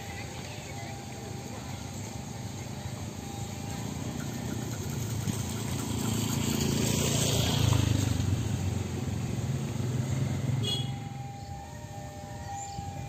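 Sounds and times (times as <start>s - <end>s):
motor engine rumbling: 0.0s - 13.0s.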